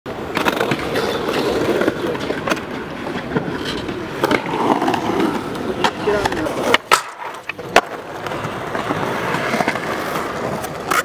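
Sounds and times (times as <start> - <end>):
skateboard sharp clicks: 0.1 - 11.0
skateboard wheels rolling on concrete: 0.1 - 11.0.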